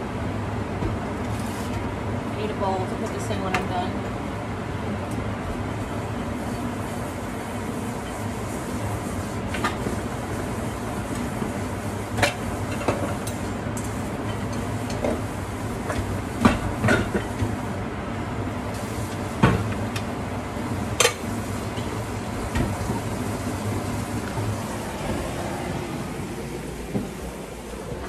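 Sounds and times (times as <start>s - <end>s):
range hood fan running: 0.0s - 28.0s.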